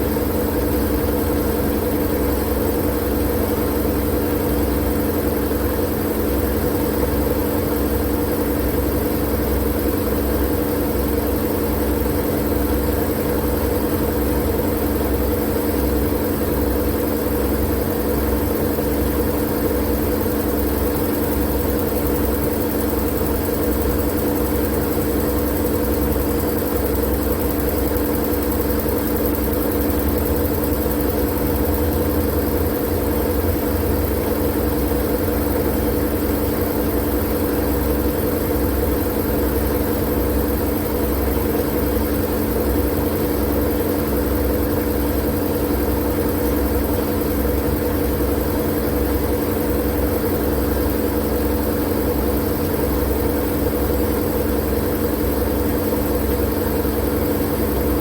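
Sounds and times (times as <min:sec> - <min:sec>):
constant humming tones: 0:00.0 - 0:58.0.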